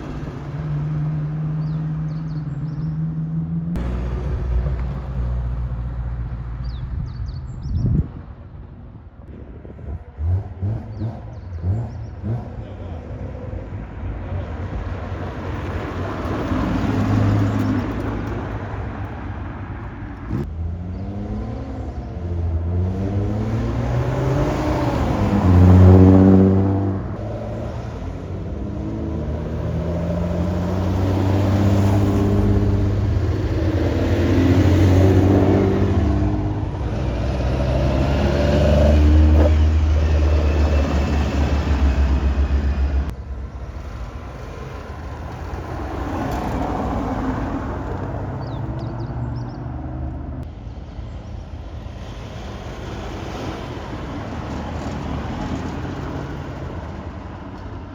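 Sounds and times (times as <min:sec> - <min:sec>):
cars driving past revving: 0:00.0 - 0:07.1, 0:09.7 - 0:51.0.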